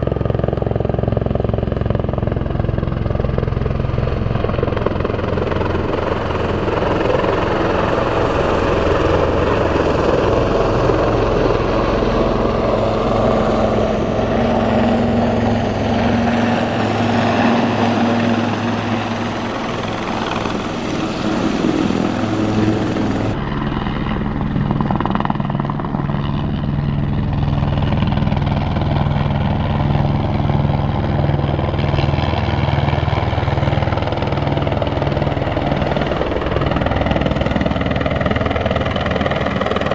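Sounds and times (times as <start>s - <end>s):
helicopter flying overhead: 0.0s - 39.9s.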